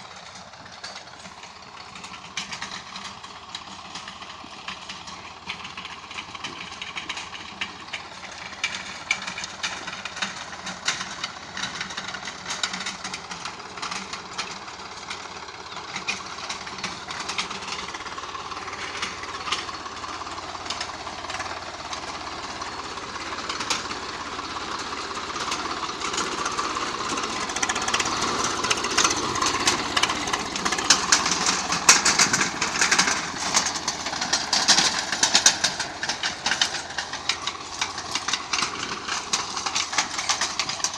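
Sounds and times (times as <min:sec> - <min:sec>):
tiller metallic clatter: 0:00.0 - 0:40.9
tractor diesel engine running: 0:00.0 - 0:40.9.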